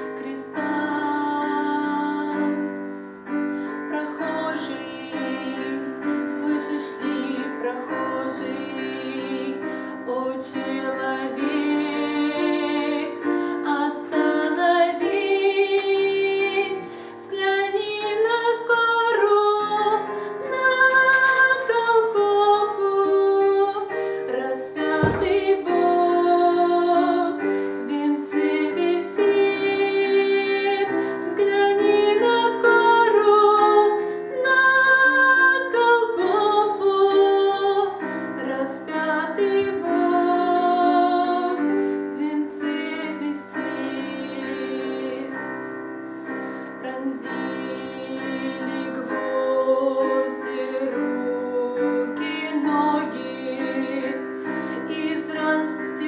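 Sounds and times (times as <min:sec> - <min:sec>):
woman singing a hymn: 0:00.0 - 0:56.0.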